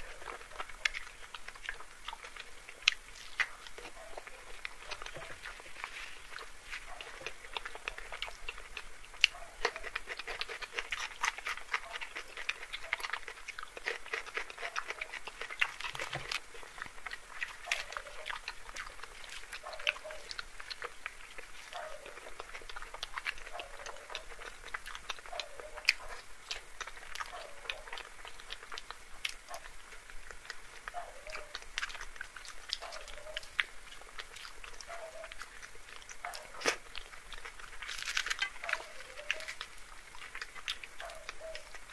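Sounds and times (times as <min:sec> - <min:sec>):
wet chewing and mouth smacking: 0:00.0 - 0:41.9.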